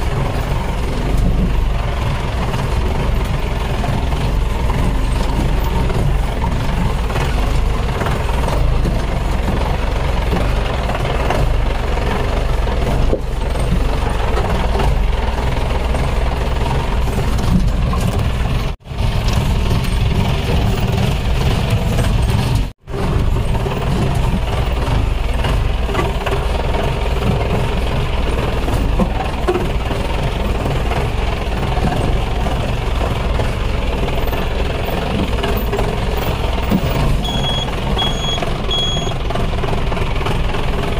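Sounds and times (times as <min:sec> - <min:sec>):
car engine low drone: 0:00.0 - 0:40.9.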